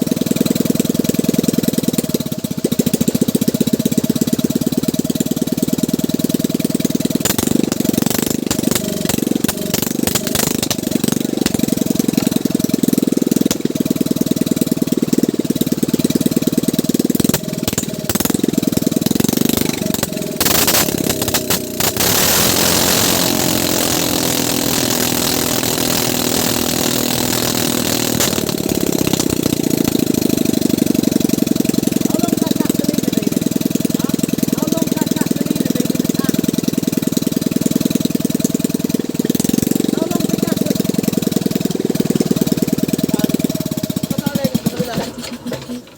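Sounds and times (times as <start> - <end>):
small boat engine running: 0.0 - 45.9.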